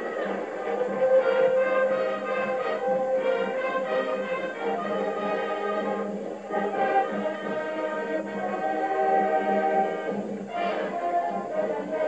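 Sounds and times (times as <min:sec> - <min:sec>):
marching band brass chords: 0:00.0 - 0:12.0.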